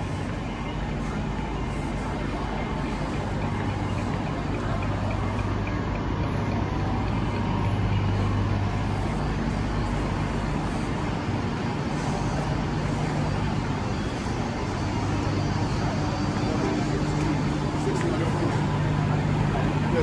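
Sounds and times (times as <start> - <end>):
train hum and rumble: 0.0 - 20.0.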